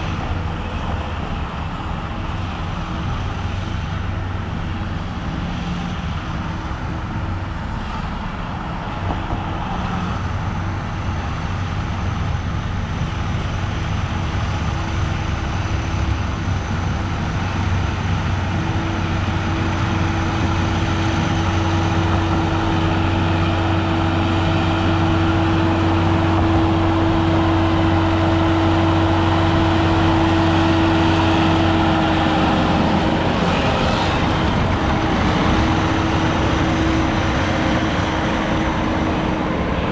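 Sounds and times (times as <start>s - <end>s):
road noise: 0.0s - 39.9s
vehicle engine hum: 0.0s - 39.9s.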